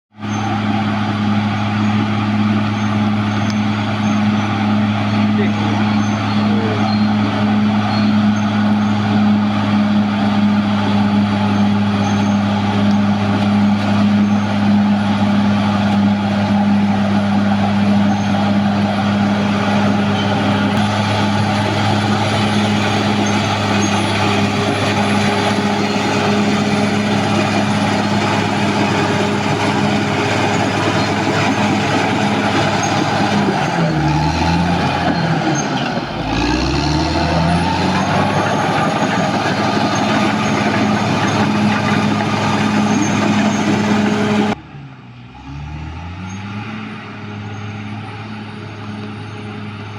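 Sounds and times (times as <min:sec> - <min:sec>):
bulldozer diesel engine running: 0:00.1 - 0:45.3.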